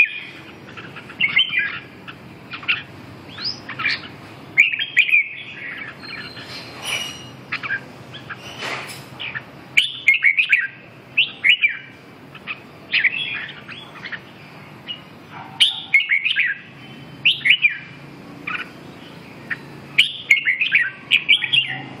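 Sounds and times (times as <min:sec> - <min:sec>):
bulbul singing chirped phrases: 0:00.0 - 0:06.5, 0:09.2 - 0:22.0.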